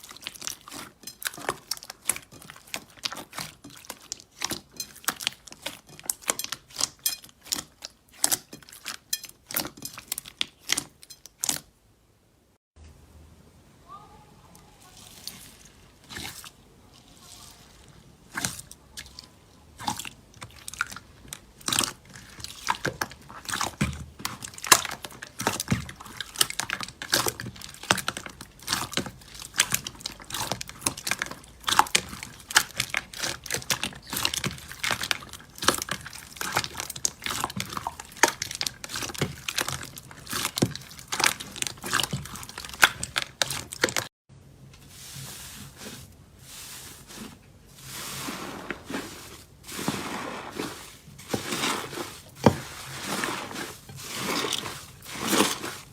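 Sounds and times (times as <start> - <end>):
slime squishing: 0.0 - 11.7, 14.5 - 44.1, 44.8 - 55.9.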